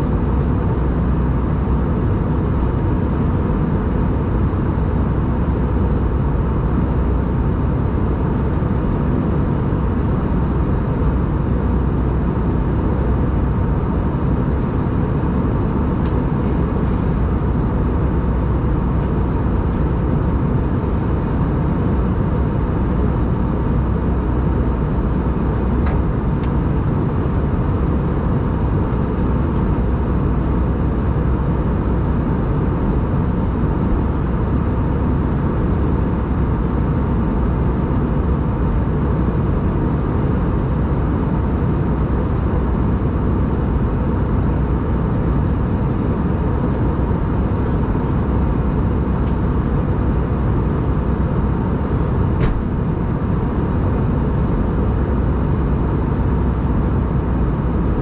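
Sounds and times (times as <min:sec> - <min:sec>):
airflow rush in aircraft cabin: 0:00.0 - 0:58.0
jet engine drone: 0:00.0 - 0:58.0.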